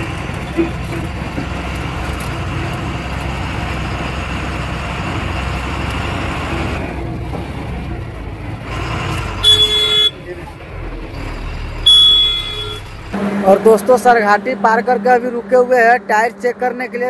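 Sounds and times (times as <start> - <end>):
road noise: 0.0 - 17.0
truck diesel engine drone: 0.0 - 17.0.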